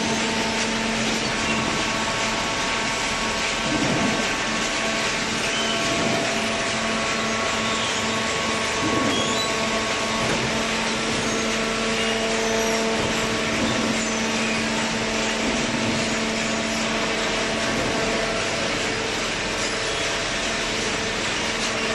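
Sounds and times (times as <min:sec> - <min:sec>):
baler motor and pump hum: 0:00.0 - 0:21.9.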